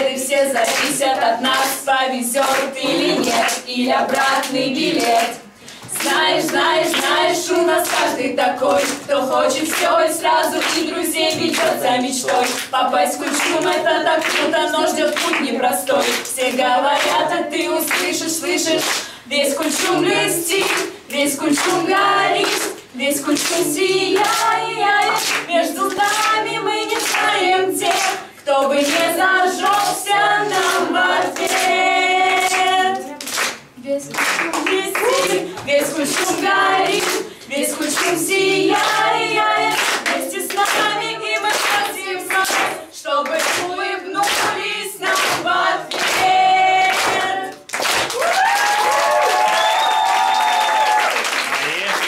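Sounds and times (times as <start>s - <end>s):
teenagers singing: 0.0s - 48.2s
rhythmic hand claps: 0.0s - 52.0s.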